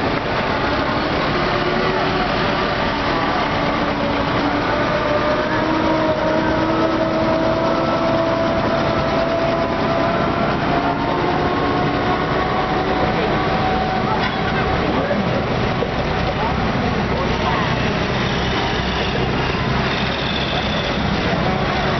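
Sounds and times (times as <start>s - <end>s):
vehicle engines driving past: 0.0s - 21.9s.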